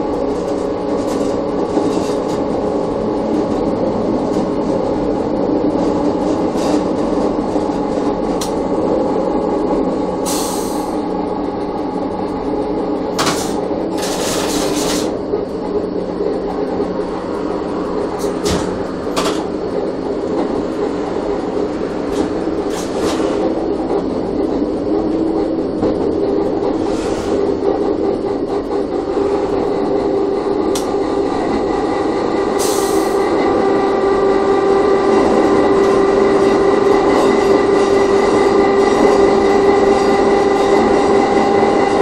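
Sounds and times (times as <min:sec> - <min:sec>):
electric railcar motor hum: 0:00.0 - 0:42.0.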